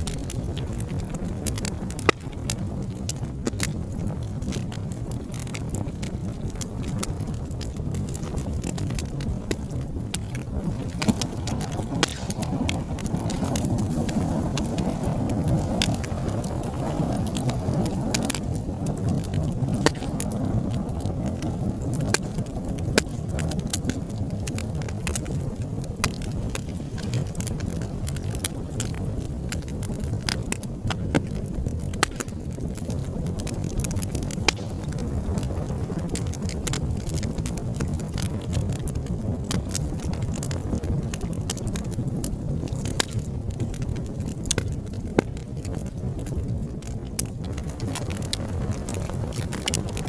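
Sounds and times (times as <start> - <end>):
low rumble of flames: 0.0 - 50.0
sharp pops and snaps of fire: 0.0 - 50.0
wood fire crackling: 0.0 - 50.0.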